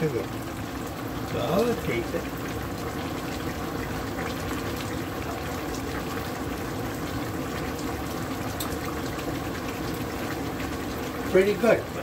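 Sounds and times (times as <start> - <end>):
pot boiling with bubbling pops: 0.0 - 12.0.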